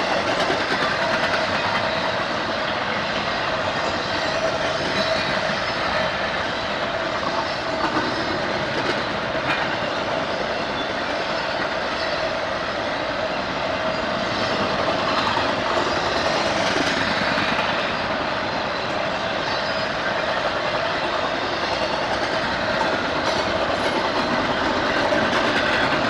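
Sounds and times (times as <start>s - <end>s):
train rolling past: 0.0s - 26.0s.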